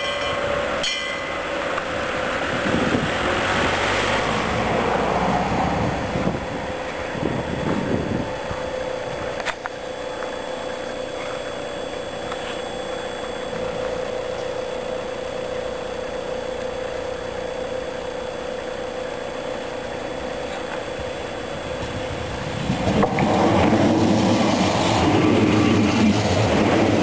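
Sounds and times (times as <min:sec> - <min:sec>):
level crossing warning tone: 0:00.0 - 0:02.8, 0:05.9 - 0:27.0.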